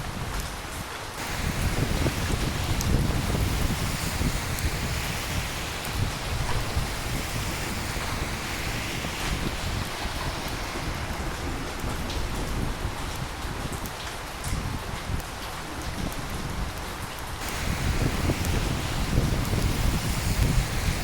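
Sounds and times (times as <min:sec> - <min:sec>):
steady rain: 0:00.0 - 0:21.0
thunder rumbling: 0:01.2 - 0:16.7, 0:17.4 - 0:21.0
sharp water drips: 0:01.2 - 0:21.0.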